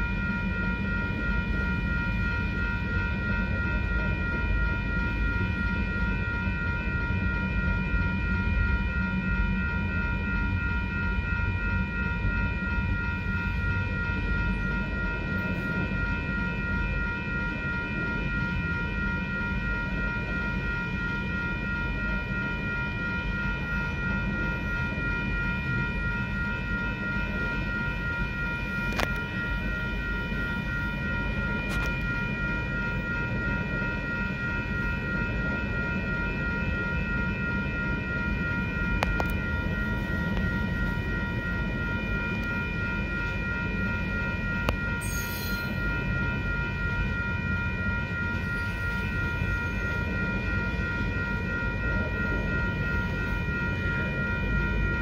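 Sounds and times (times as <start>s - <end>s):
freight train rumbling on rails: 0.0s - 55.0s
high ringing tones: 0.0s - 55.0s.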